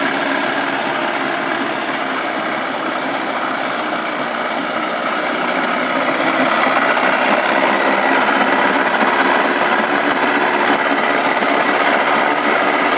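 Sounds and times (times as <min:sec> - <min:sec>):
outboard motor running: 0:00.0 - 0:12.9.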